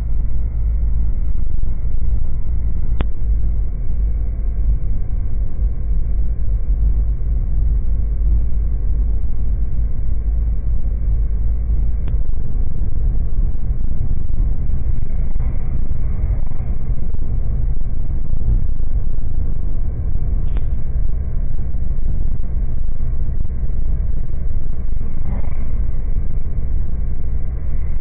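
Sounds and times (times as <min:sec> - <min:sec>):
car driving heard from inside: 0:00.0 - 0:28.0.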